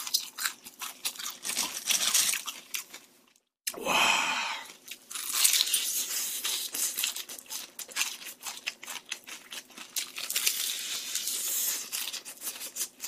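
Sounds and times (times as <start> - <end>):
crispy fried chicken crunching: 0.0 - 3.5, 4.6 - 13.0.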